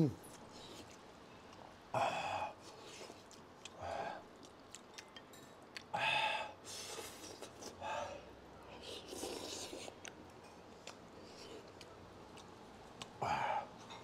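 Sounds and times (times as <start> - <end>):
man chewing noodles: 2.5 - 13.9.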